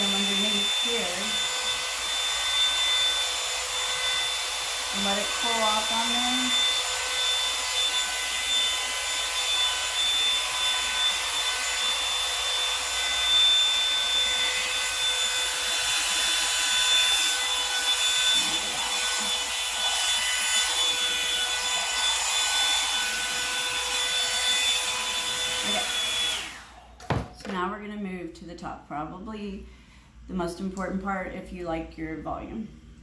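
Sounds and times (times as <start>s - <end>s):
hot-air brush motor whine: 0.0s - 27.3s.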